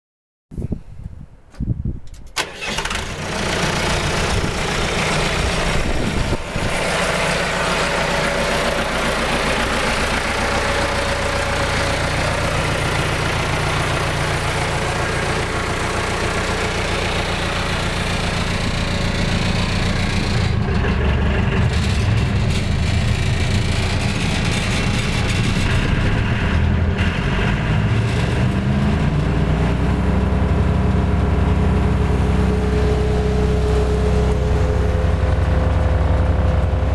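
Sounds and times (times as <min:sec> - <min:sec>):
wood chipper engine starting: 0:02.4 - 0:36.9.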